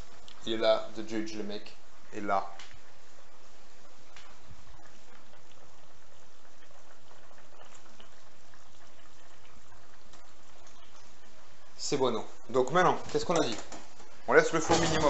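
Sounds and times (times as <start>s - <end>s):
pan simmering with bubbling: 0.0s - 15.0s.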